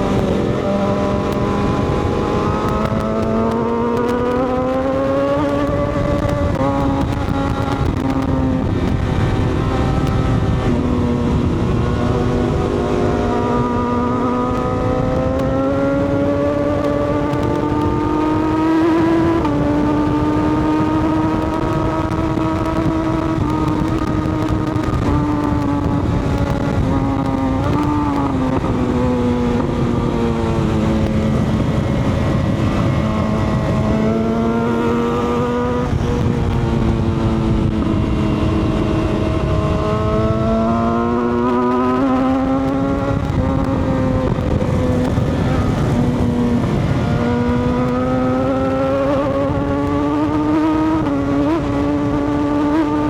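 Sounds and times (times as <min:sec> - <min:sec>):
motorcycle engine running: 0:00.0 - 0:53.0
wind rush: 0:00.0 - 0:53.0.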